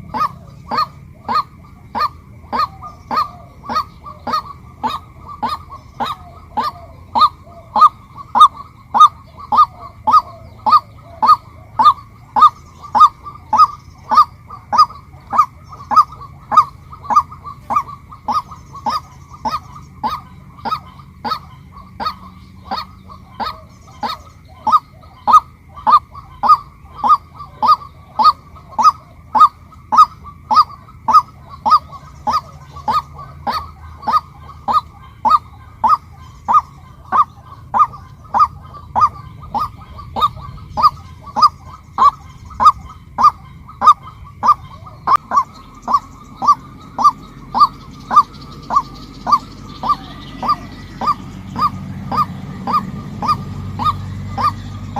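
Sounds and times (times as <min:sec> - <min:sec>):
waterhen calling kwak notes: 0:00.0 - 0:54.9.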